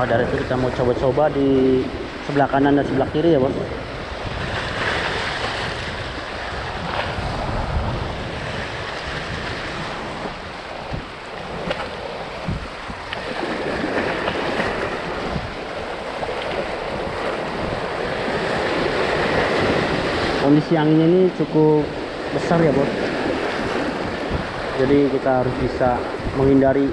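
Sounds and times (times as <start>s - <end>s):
waves splashing against concrete: 0.0s - 26.9s
wind rumbling on microphone: 0.0s - 26.9s.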